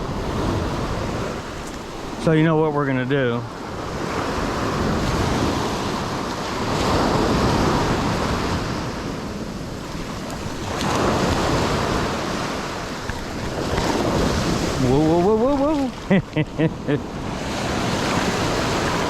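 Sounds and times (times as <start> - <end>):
ocean surf washing ashore: 0.0 - 19.0
wind buffeting microphone: 0.0 - 19.0.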